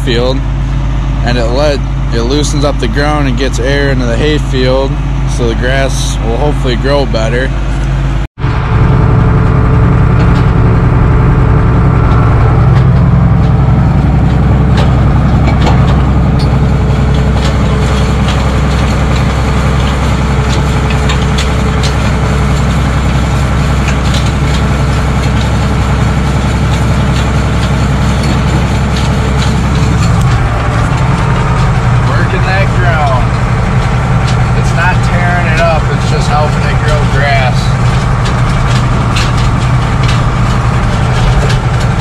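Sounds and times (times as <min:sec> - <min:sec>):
tractor engine under load: 0:00.0 - 0:42.0.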